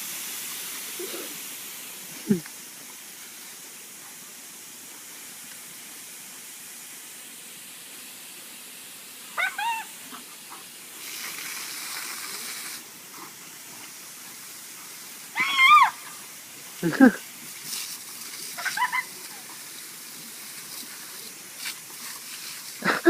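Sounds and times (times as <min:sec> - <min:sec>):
water spray hissing: 0:00.0 - 0:23.0.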